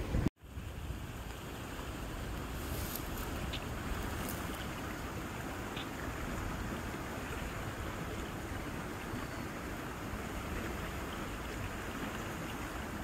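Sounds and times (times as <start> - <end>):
rushing outdoor background noise: 0.0 - 13.0.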